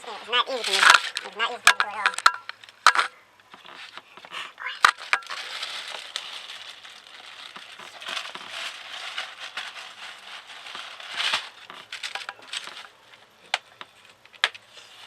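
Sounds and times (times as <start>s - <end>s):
rustling and scraping handling noise: 0.0s - 15.0s.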